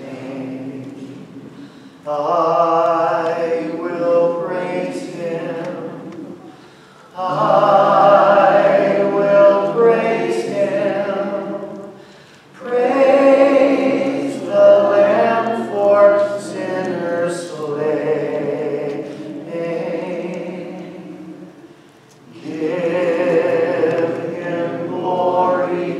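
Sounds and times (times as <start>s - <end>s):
congregation singing a hymn: 0.0s - 25.9s.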